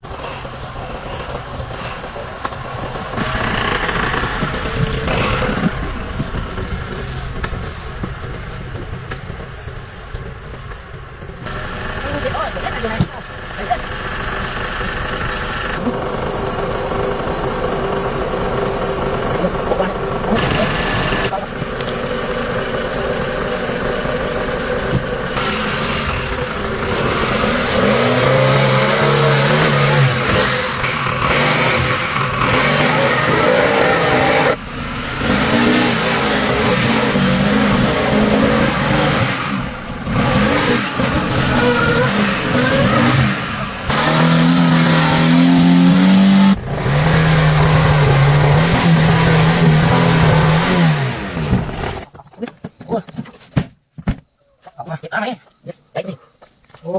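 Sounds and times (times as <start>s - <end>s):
engine humming: 0.0s - 52.1s.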